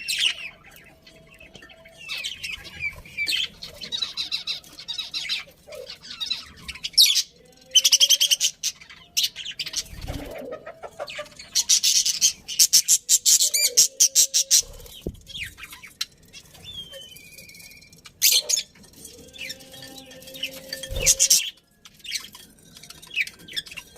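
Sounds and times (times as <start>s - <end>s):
budgerigars chirping and chattering: 0.0s - 23.9s.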